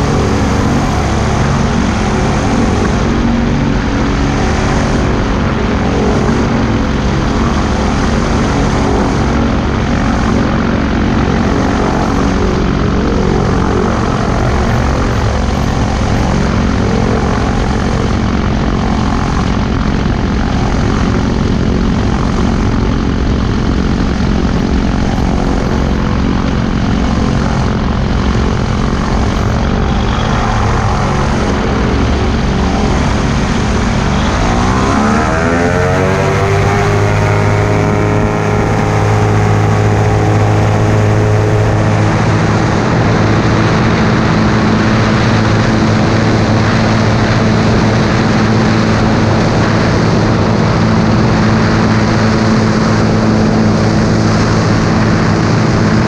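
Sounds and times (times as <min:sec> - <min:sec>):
engine and propeller running: 0:00.0 - 0:56.0.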